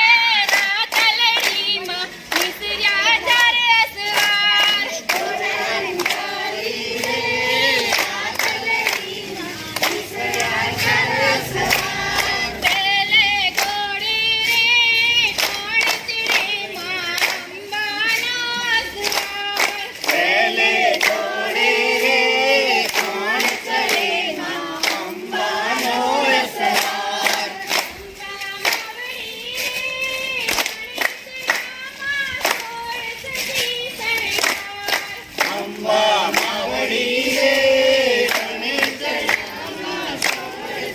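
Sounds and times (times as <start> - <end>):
group of voices singing: 0.0 - 40.9
sharp hand claps: 0.4 - 5.4, 6.0 - 7.2, 7.9 - 9.1, 9.7 - 12.9, 13.5 - 18.4, 19.0 - 21.3, 22.8 - 29.0, 30.4 - 37.5, 38.2 - 40.9.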